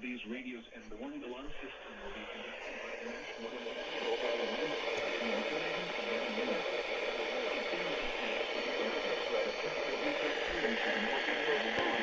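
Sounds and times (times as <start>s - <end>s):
faint broken radio voice: 0.0s - 12.0s
radio static hiss: 0.0s - 12.0s.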